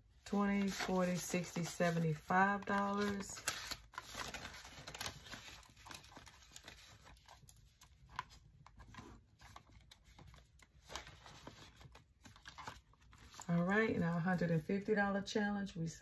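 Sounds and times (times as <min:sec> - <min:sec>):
paper banknotes rustling: 0:00.3 - 0:13.5.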